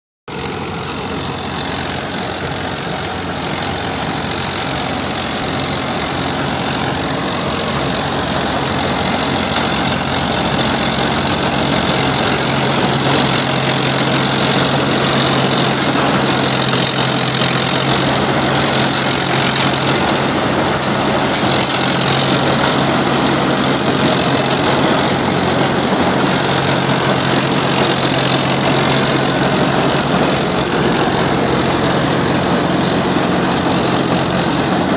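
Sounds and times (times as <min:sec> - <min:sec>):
combine harvester engine drone: 0:00.3 - 0:34.9
harvester belts and cutting gear: 0:00.3 - 0:34.9.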